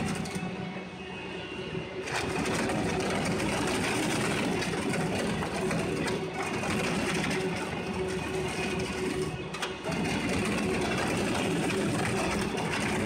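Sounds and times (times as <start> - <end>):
paper crunching in shredder: 0.0 - 0.4, 2.0 - 13.0
shredder machine drone: 0.0 - 13.0.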